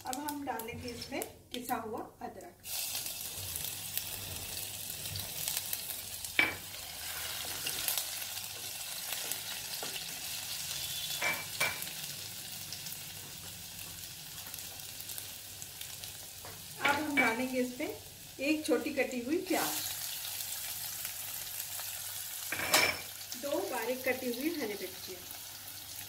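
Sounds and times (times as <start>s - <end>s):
spices sizzling in hot oil: 0.0s - 26.0s.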